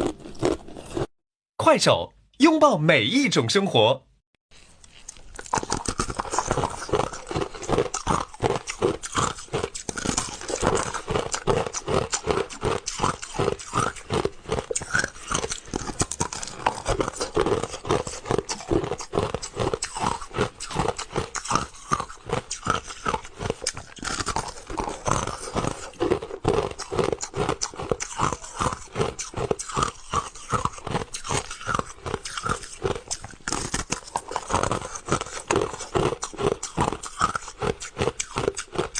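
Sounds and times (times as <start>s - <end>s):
crushed ice being chewed: 0.0s - 1.1s, 4.5s - 38.9s.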